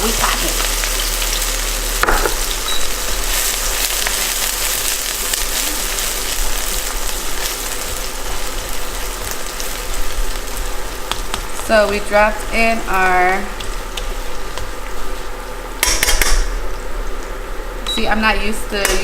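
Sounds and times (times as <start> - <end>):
hot oil sizzling in a wok: 0.0 - 17.7.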